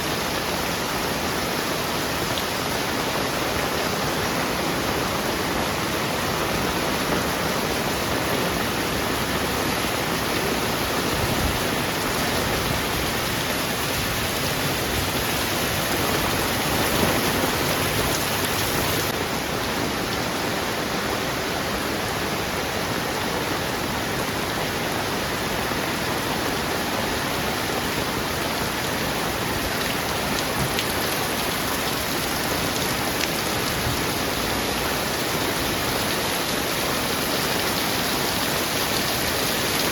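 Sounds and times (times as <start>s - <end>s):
heavy rain on surfaces: 0.0s - 39.9s.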